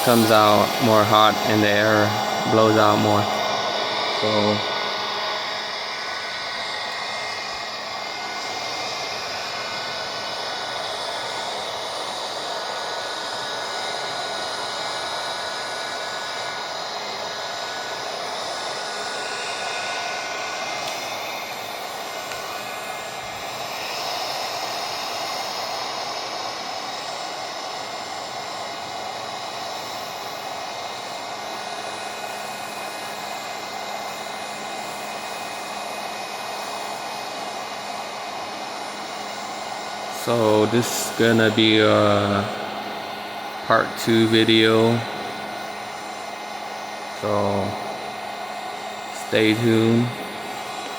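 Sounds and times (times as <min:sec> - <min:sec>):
hot-air blower rushing air: 0:00.0 - 0:50.9.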